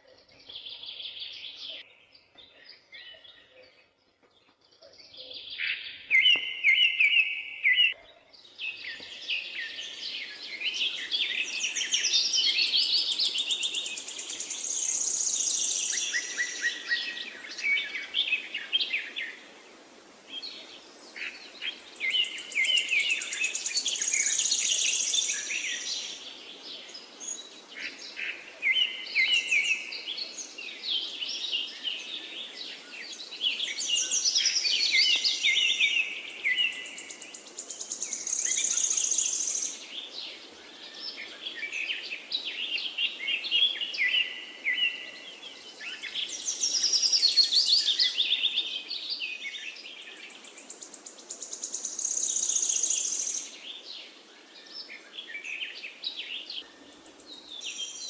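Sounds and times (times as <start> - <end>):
birds chirping and singing: 0.0 - 19.5, 20.3 - 58.0.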